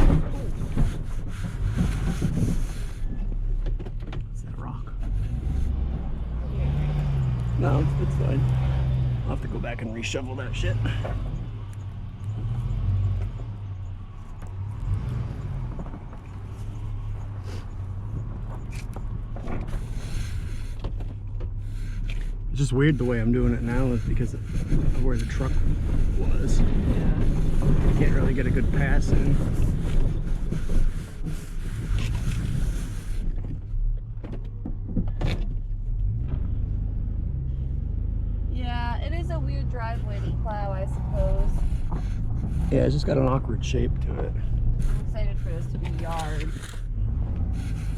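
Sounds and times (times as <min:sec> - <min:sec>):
knocks and scrapes: 0:00.0 - 0:37.6, 0:38.6 - 0:47.9
truck engine droning: 0:04.3 - 0:47.9.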